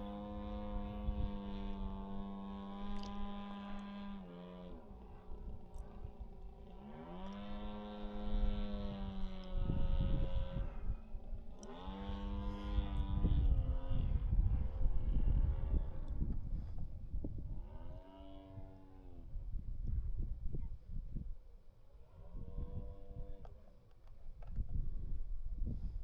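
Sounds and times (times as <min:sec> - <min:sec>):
wind buffeting microphone: 0:00.0 - 0:04.2, 0:07.5 - 0:21.5, 0:22.2 - 0:23.5, 0:24.3 - 0:26.0
model airplane engine: 0:00.0 - 0:26.0.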